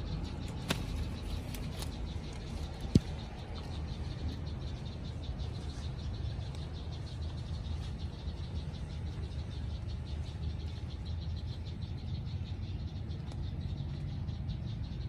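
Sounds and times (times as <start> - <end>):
pulsing chirping chorus: 0.0 - 15.0.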